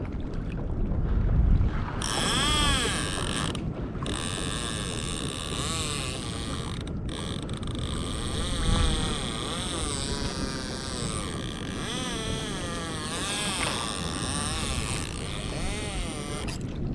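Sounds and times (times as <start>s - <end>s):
fishing reel drag whining: 2.0s - 16.6s.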